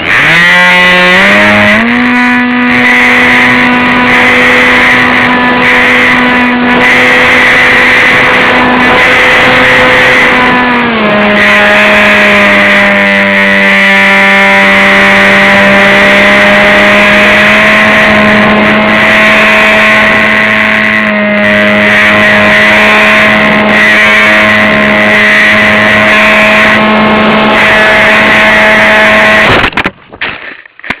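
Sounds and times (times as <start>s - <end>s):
electric motor and propeller whine: 0.0s - 29.8s
loud wind noise: 0.0s - 30.3s.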